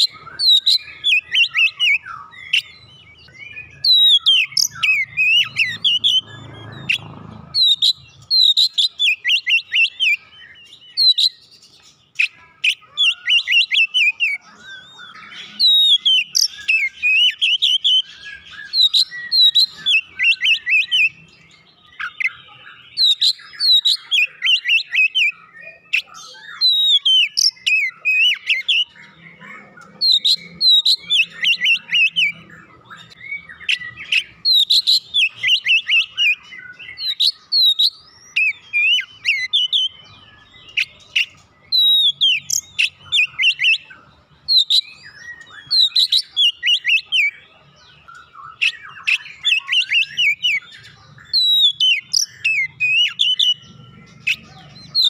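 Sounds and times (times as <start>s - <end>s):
magpie-robin singing: 0.0s - 55.0s.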